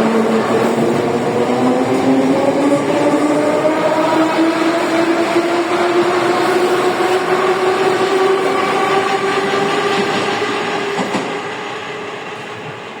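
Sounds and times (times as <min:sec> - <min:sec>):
rail and wheel noise: 0:00.0 - 0:13.0.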